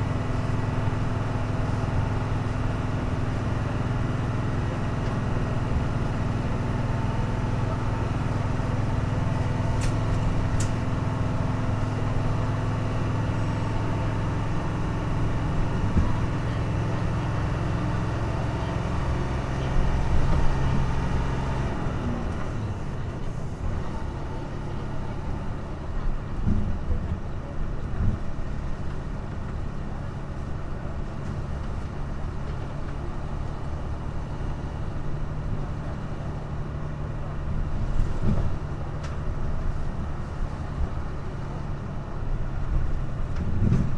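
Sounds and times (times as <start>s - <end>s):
bus engine at high revs: 0.0s - 43.9s.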